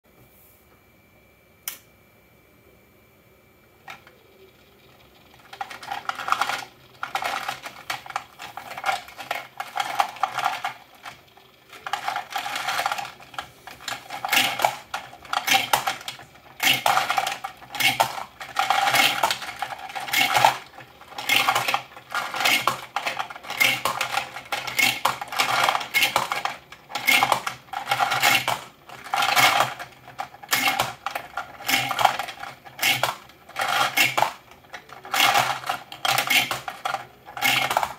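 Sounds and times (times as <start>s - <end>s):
faint low motor hum: 0.1s - 37.9s.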